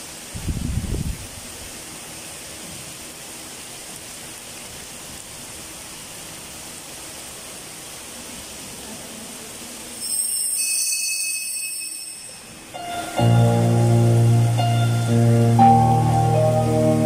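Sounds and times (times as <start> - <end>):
steady room noise hiss: 0.0 - 17.0.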